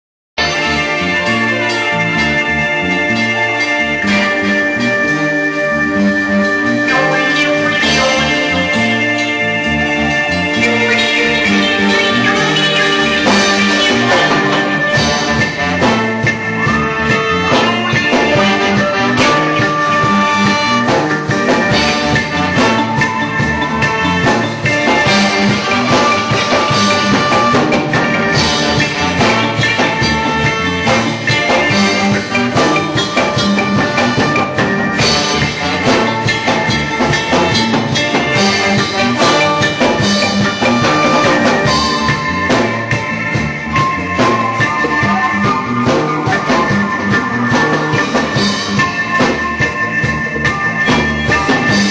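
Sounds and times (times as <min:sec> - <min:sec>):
reggae band playing live: 0:00.4 - 0:51.9.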